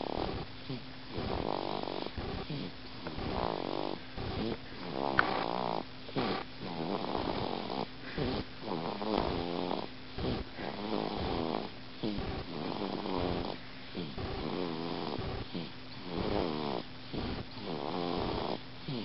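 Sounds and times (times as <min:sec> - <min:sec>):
raspy snoring: 0:00.0 - 0:19.0.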